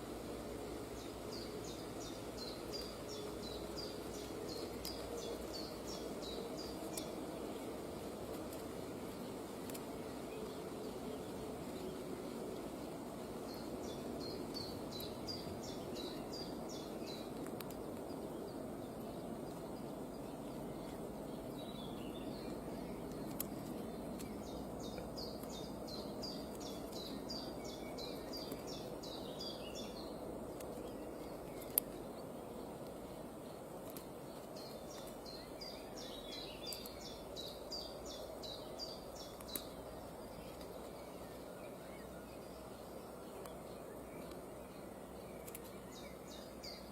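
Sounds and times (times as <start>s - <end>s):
low background noise: 0.0s - 46.9s.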